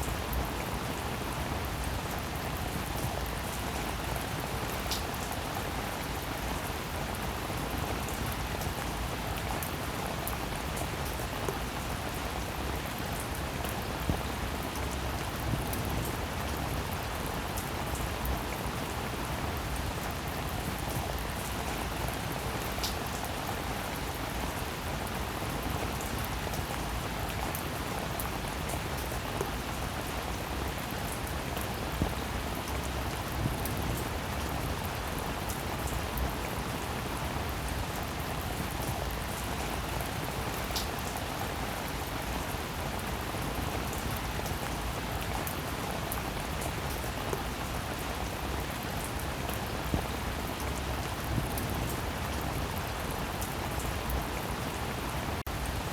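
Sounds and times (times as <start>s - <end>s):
rain hissing on a surface: 0.0s - 55.9s.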